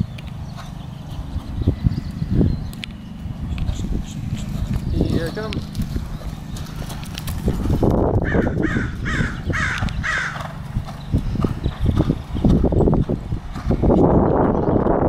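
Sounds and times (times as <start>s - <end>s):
bird calling: 0.0s - 12.4s
horse cantering on dirt: 0.0s - 15.0s
low rumble of wind: 0.0s - 15.0s.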